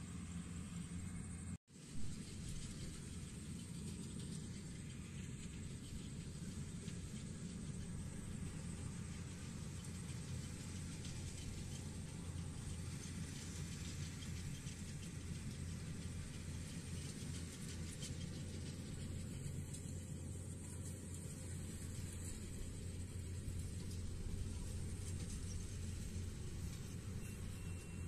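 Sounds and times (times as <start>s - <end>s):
combine harvester engine rumble: 0.0s - 28.0s.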